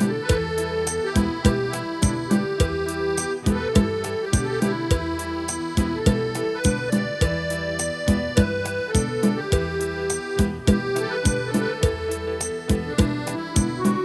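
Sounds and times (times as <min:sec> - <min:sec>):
instrumental song melody: 0:00.0 - 0:14.0.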